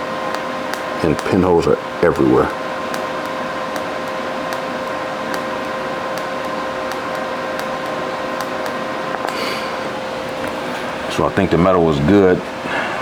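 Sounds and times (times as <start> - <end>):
welding arc buzzing hiss: 0.0 - 11.5
faint welding crackles: 0.0 - 12.6.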